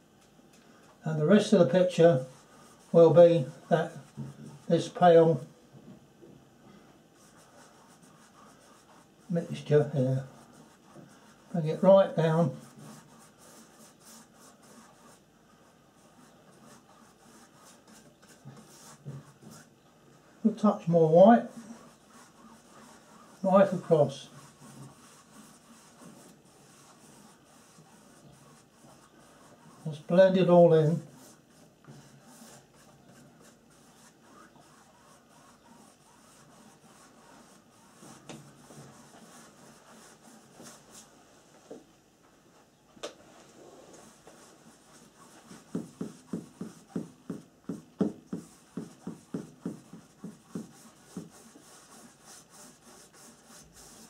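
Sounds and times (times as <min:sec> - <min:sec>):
paintbrush brushing canvas: 0:01.6 - 0:05.0, 0:07.2 - 0:41.1, 0:43.3 - 0:54.0.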